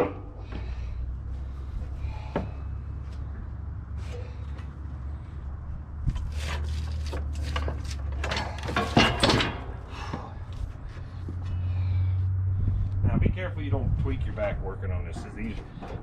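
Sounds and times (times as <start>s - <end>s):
metal plow frame clunking and scraping: 0.0s - 5.3s, 6.0s - 12.2s, 13.6s - 16.0s.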